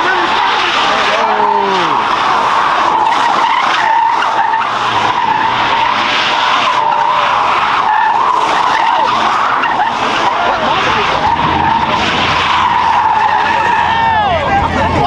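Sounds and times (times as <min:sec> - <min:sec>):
car tyres squealing: 0:00.0 - 0:15.0.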